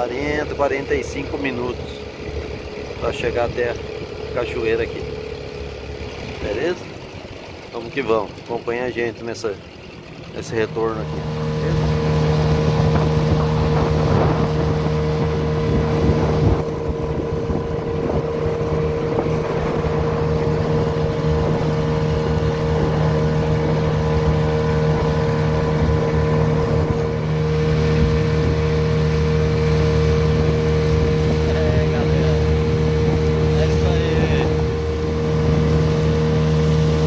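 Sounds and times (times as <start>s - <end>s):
outboard motor running: 0.0s - 37.0s
water and wind hiss: 0.0s - 37.0s.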